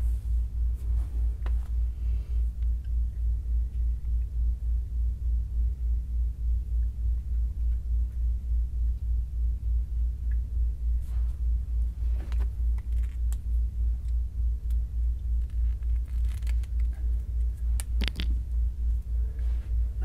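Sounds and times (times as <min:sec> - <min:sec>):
low throbbing rumble: 0:00.0 - 0:20.0.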